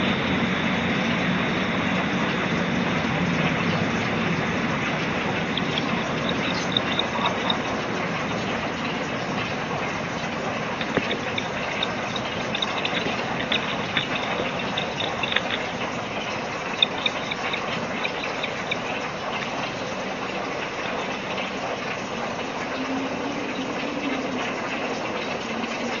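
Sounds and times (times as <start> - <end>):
faint low hum: 0.0 - 26.0
outdoor background rush: 0.0 - 26.0.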